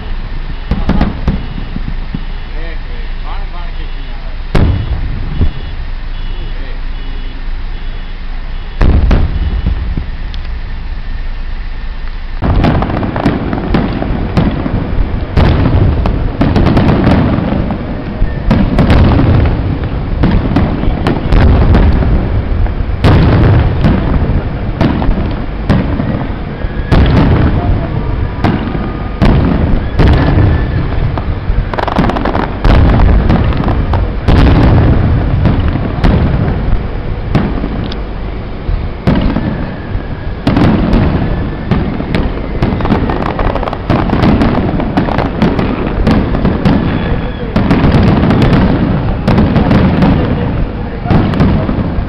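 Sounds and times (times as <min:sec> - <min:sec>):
fireworks bursting: 0:00.0 - 0:52.0
low rumble: 0:06.8 - 0:52.0.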